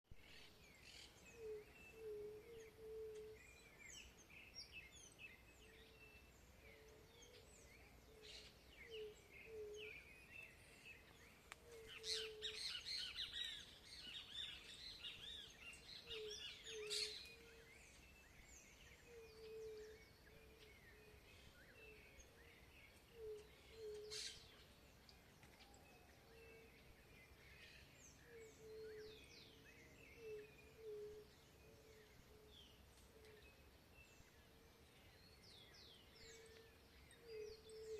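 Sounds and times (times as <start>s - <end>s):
birds singing and chirping: 0.2s - 37.9s.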